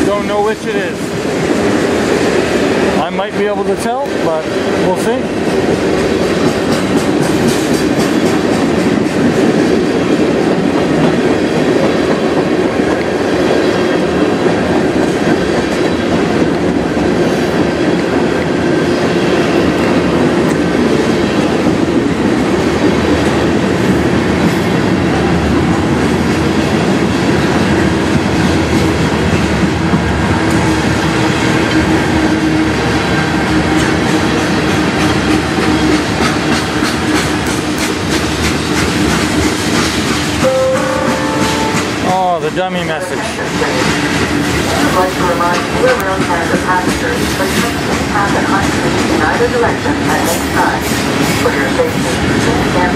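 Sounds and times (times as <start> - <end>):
steel wheels on rail: 0.0 - 52.9.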